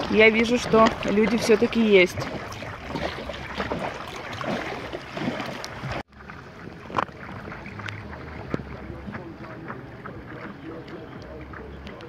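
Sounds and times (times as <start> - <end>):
paddle splashes: 0.0 - 12.0
water lapping and splashing: 0.0 - 12.0.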